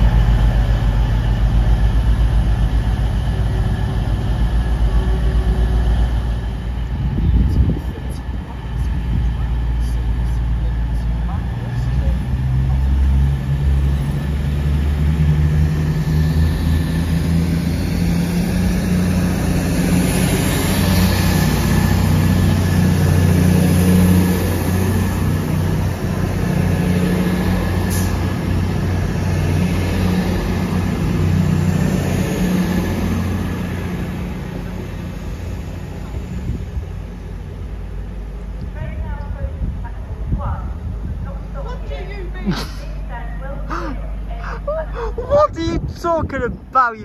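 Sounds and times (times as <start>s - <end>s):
diesel train engine droning: 0.0s - 47.0s.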